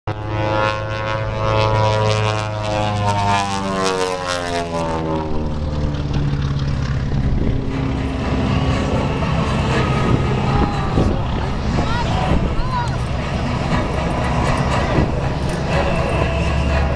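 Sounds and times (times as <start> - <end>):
propeller plane engines droning: 0.1 - 16.9.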